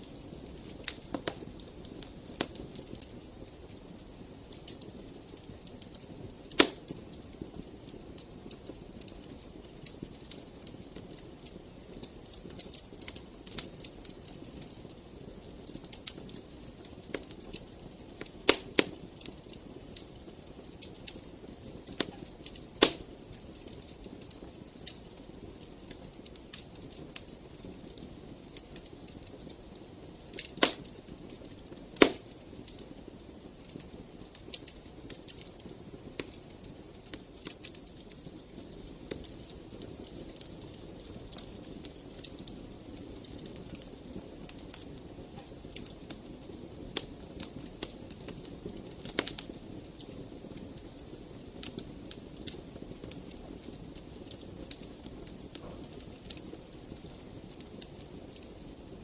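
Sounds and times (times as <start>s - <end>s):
wood fire crackling: 0.0s - 59.0s
sharp pops of fire: 0.1s - 3.8s, 4.4s - 14.8s, 18.2s - 20.1s, 20.7s - 24.0s, 24.6s - 32.8s, 33.6s - 50.7s, 51.6s - 58.7s.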